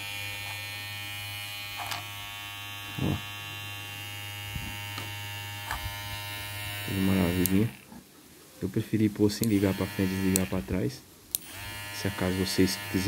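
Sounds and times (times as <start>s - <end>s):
hair clipper motor buzzing: 0.0s - 7.8s, 9.4s - 10.7s, 11.4s - 13.0s.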